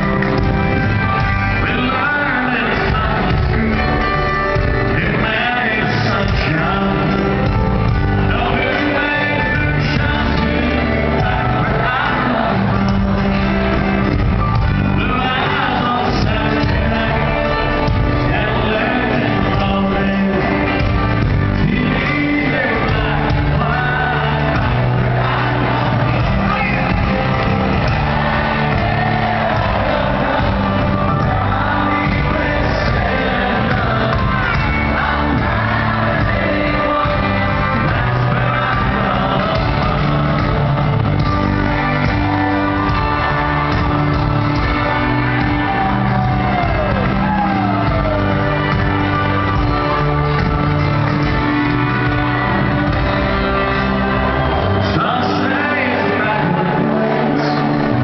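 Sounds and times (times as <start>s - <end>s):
crowd shouts and whoops: 0.0s - 58.0s
live band and singer: 0.0s - 58.0s.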